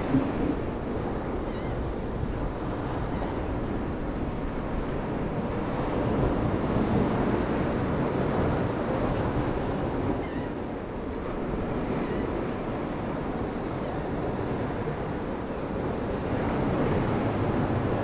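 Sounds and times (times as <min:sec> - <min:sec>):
ocean surf: 0:00.0 - 0:18.0
wind noise on microphone: 0:00.0 - 0:18.0.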